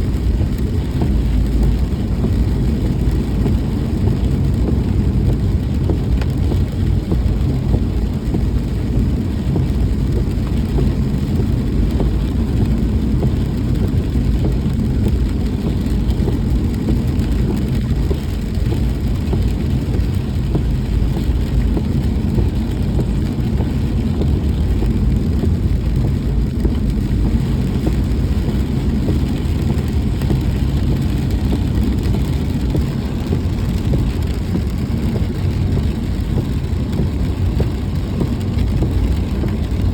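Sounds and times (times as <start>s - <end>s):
engine and road rumble: 0.0s - 39.9s
wet tyres and rain hiss: 0.0s - 39.9s.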